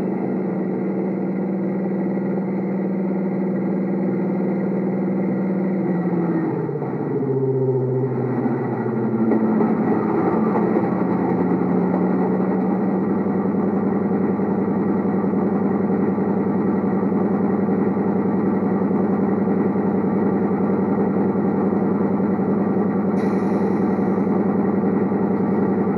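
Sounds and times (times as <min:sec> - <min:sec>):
simulated diesel engine idling: 0:00.0 - 0:25.9.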